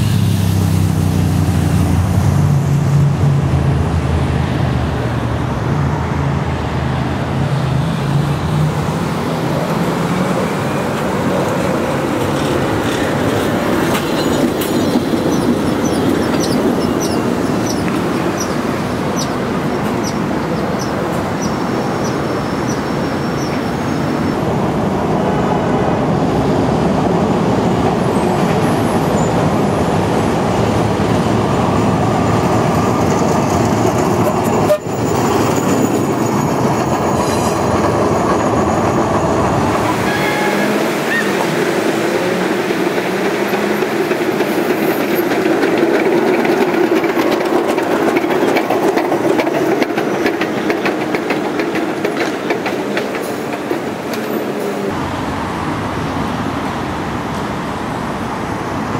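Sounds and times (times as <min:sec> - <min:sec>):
streetcar wheels rumbling on rails: 0:00.0 - 0:58.9.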